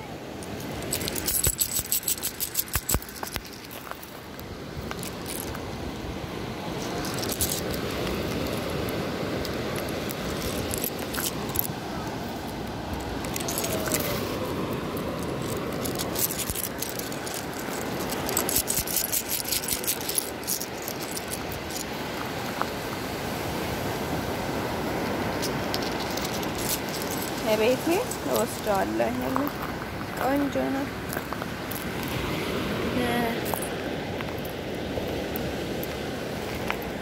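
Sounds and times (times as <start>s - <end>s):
seashells clinking in hand: 0.3s - 6.1s, 6.7s - 22.9s, 24.9s - 32.2s, 33.1s - 36.9s.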